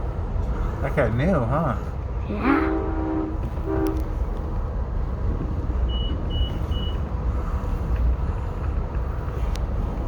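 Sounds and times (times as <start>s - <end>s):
train rumbling inside coach: 0.0s - 10.0s.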